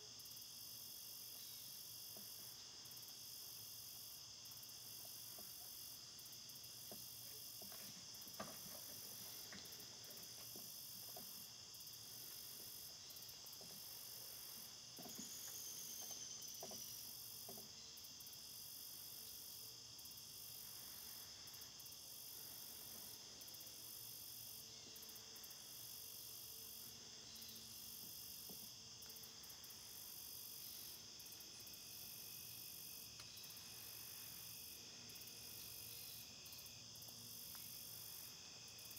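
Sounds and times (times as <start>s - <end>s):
crickets and insects chirping: 0.0s - 38.9s.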